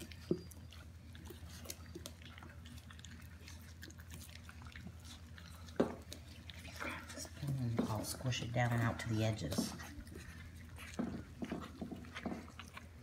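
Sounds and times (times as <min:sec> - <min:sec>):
puppies chewing food: 0:00.0 - 0:13.0.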